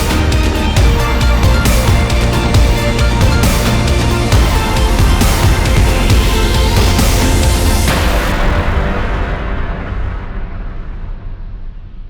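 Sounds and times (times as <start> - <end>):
music with heavy drums: 0.0 - 11.4.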